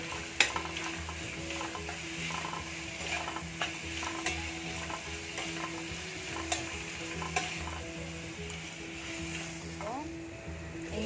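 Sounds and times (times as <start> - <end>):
spatula scraping pan: 0.0 - 9.8
vegetables sizzling in oil: 0.0 - 11.0.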